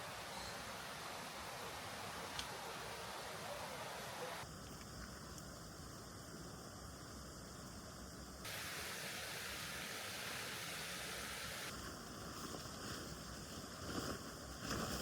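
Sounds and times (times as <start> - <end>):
hiss-like rushing noise: 0.0 - 4.6, 5.5 - 15.0
faint steady background noise: 0.0 - 15.0.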